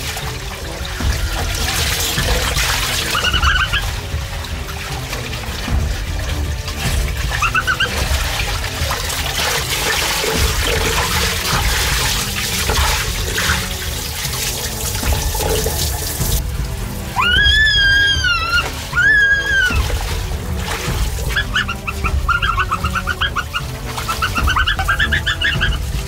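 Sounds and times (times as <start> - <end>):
water rushing down a slide: 0.0 - 26.0.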